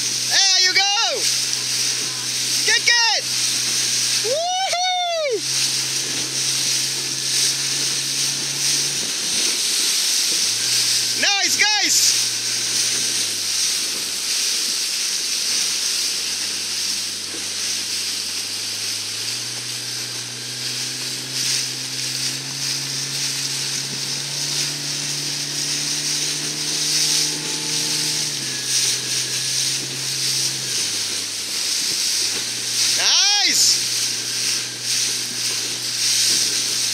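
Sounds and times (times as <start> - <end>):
motorboat engine drone: 0.0 - 36.9
water spray: 0.0 - 36.9.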